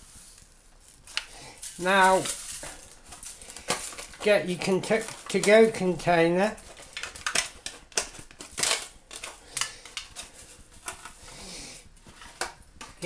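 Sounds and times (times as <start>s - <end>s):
aluminium foil container crinkling: 0.0s - 13.0s.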